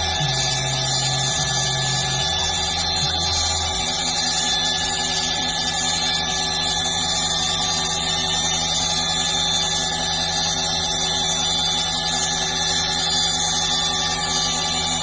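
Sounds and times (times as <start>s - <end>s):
cnc mill spindle whine: 0.0s - 15.0s.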